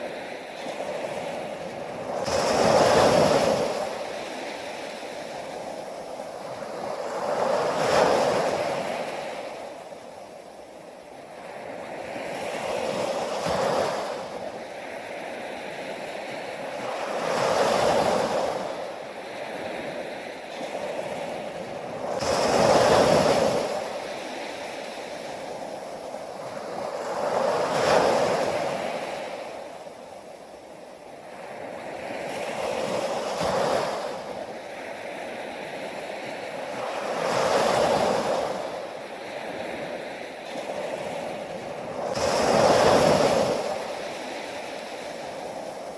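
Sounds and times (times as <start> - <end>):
ocean waves breaking on shore: 0.0 - 45.9.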